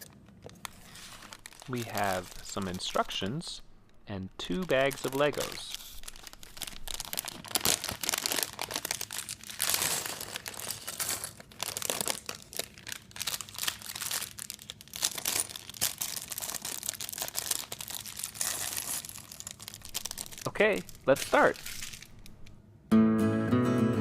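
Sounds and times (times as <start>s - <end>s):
plastic bags crinkling: 0.0s - 3.4s, 4.4s - 22.6s.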